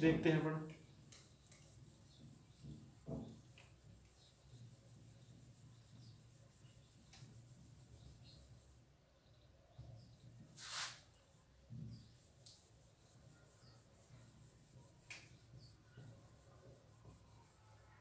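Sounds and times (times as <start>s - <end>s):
cloth rubbing on whiteboard: 0.0s - 8.8s, 10.4s - 17.8s.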